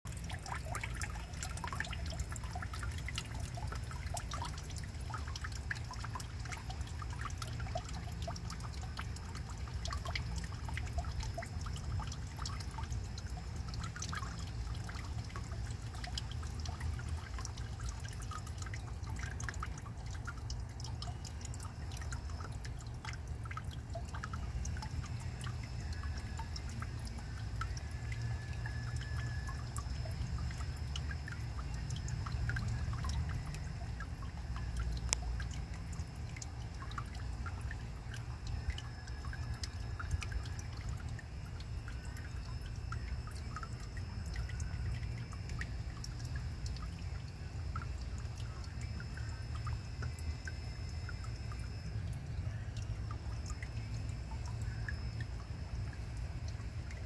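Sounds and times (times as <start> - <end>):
water trickling and dripping: 0.1 - 57.0
small irregular ticks: 0.2 - 57.0.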